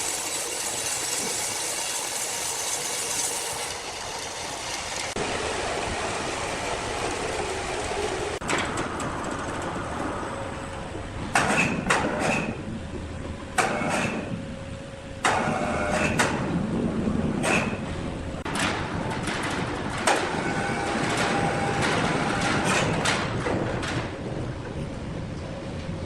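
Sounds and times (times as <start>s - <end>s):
sawmill machinery running: 0.0s - 25.2s.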